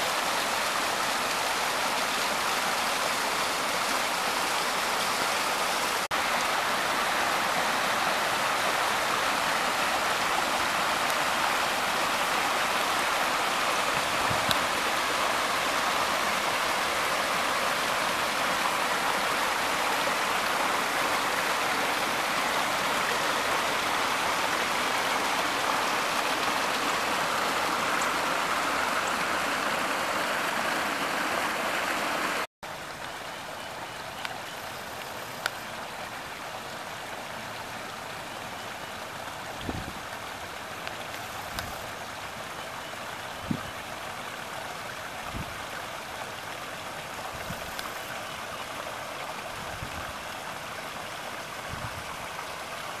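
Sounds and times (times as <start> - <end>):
creek rushing over rocks: 0.0 - 53.0.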